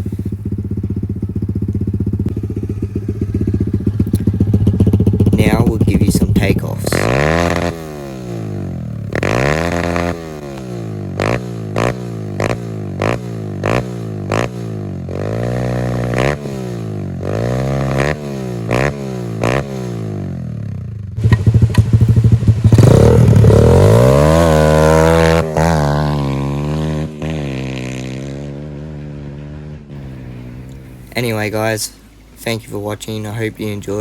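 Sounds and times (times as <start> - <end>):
motorbike accelerating away: 0.0 - 32.4
motorbike engine revving: 0.0 - 34.0.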